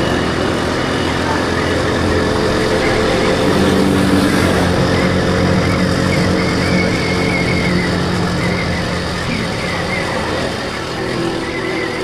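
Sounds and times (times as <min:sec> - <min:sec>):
motorcycle engine hum: 0:00.0 - 0:12.0
steady rushing noise: 0:00.0 - 0:12.0.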